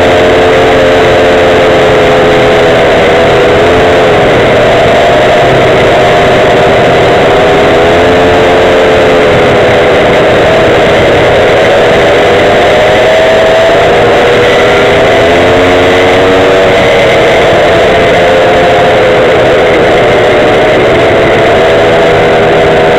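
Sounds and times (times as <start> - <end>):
small gas engine running: 0.0 - 22.9
steady rushing noise: 0.0 - 22.9.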